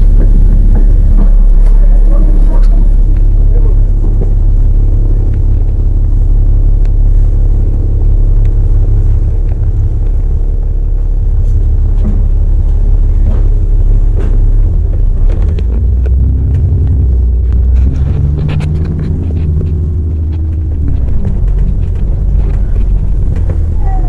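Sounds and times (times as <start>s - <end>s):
bodywork rattles and clicks: 0.0s - 24.0s
bus diesel engine rumble: 0.0s - 24.0s.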